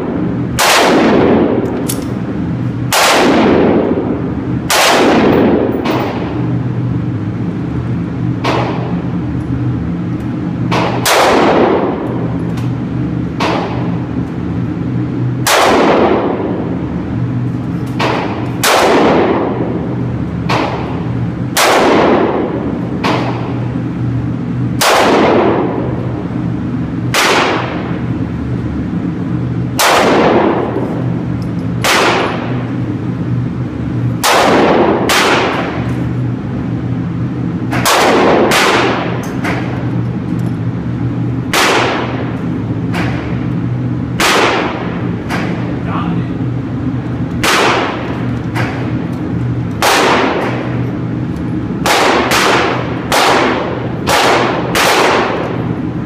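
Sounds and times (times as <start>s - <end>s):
pistol shots echoing indoors: 0.0s - 45.7s, 46.4s - 56.0s
steady low hum: 0.0s - 56.0s.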